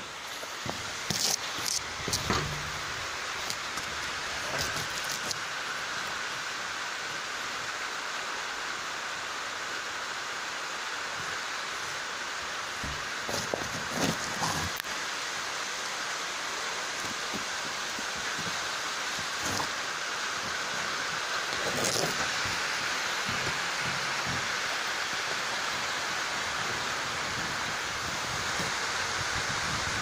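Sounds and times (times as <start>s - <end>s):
heavy rain on rooftops: 0.0s - 30.0s.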